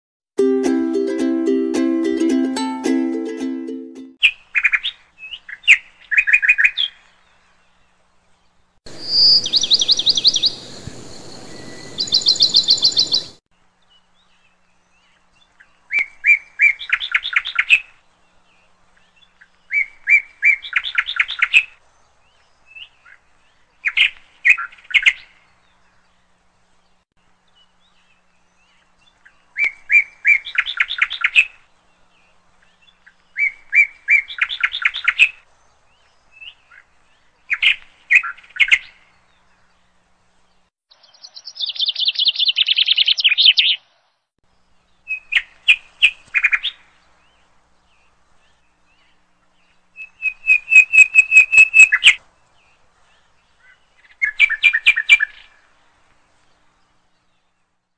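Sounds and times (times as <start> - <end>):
songbird chirps and trills: 0.4 - 57.9.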